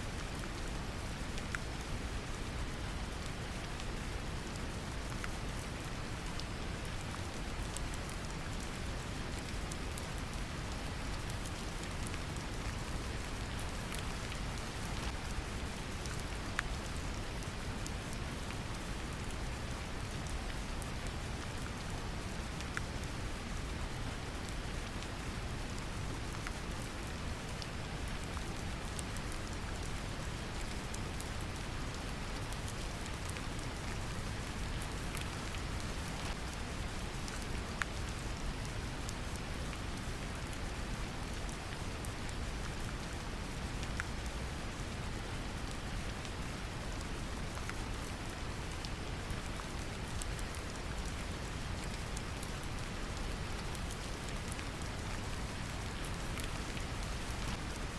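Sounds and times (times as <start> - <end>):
rain drops ticking: 0.1 - 57.9.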